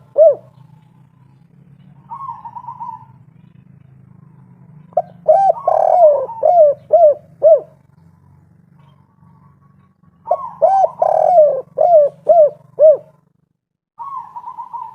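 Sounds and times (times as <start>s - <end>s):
dove cooing: 0.0s - 13.4s, 14.0s - 14.9s
steady low hum: 0.0s - 14.9s.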